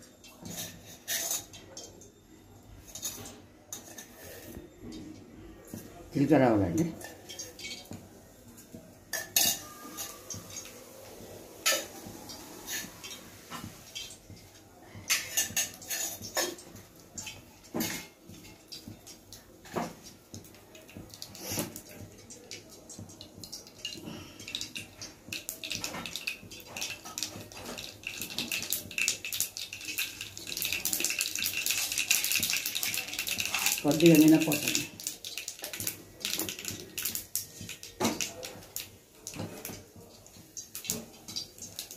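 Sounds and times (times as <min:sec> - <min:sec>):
seeds frying in hot oil: 0:00.0 - 0:04.6, 0:05.6 - 0:41.9.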